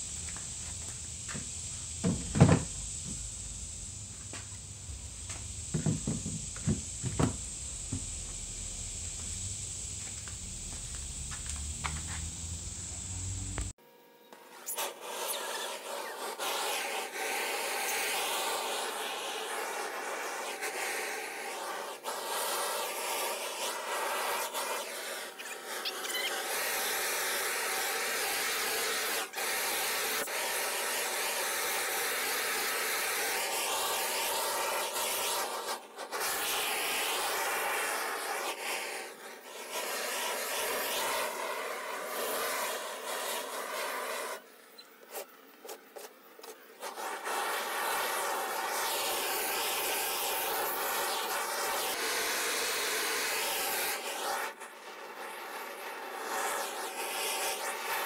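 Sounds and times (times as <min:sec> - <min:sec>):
propane torch rushing: 0:00.0 - 0:13.8, 0:14.5 - 0:58.0.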